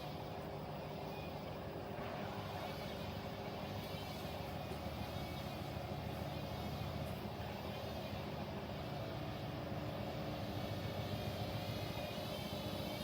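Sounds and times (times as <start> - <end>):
washing machines running: 0.0 - 13.0.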